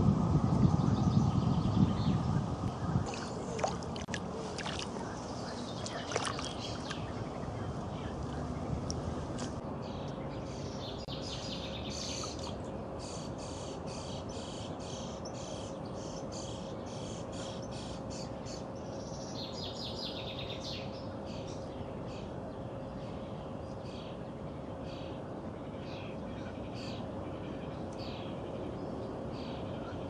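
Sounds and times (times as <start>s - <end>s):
faint hum: 0.0s - 30.0s
small birds chirping: 0.6s - 30.0s.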